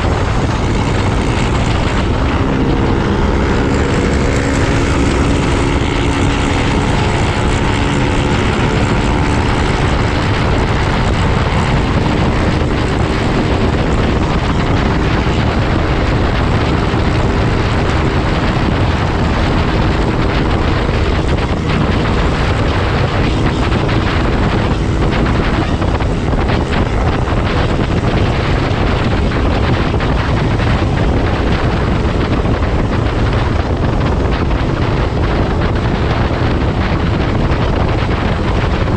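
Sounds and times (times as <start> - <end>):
motorcycle engine hum: 0.0 - 38.9
wind noise on microphone: 0.0 - 38.9.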